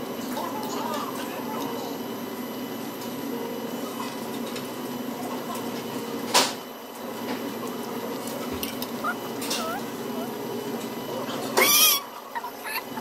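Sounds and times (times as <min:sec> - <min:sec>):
dining room background noise: 0:00.2 - 0:13.0.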